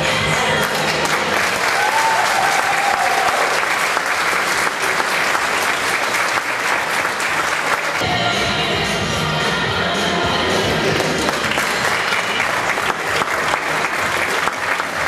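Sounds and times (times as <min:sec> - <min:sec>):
audience clapping: 0:00.1 - 0:08.0, 0:10.8 - 0:15.0.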